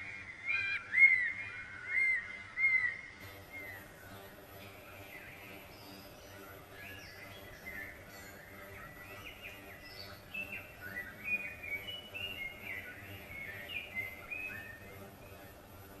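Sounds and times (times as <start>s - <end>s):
faint steady hum: 0.0s - 16.0s
small birds chirping: 0.0s - 16.0s.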